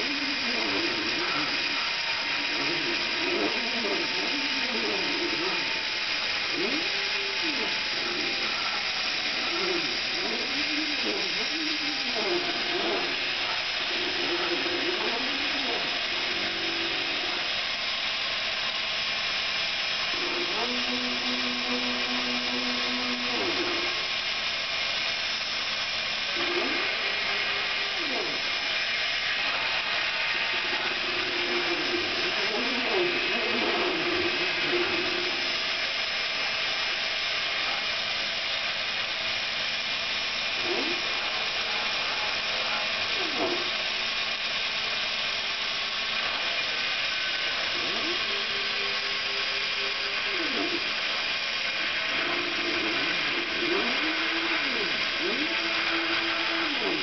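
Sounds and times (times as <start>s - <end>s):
cutter high-pitched hiss: 0.0s - 57.0s
stepper motors whining: 0.0s - 57.0s.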